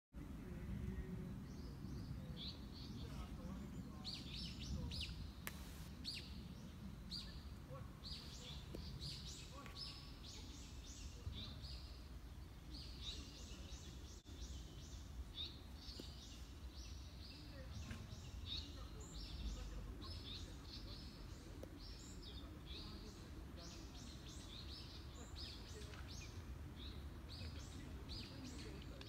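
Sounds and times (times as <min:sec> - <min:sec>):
small birds chirping: 0:01.3 - 0:29.0.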